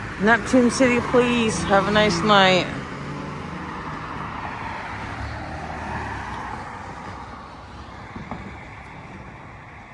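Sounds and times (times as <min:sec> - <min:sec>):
vehicle engine and tyres rumble: 0:00.0 - 0:09.9.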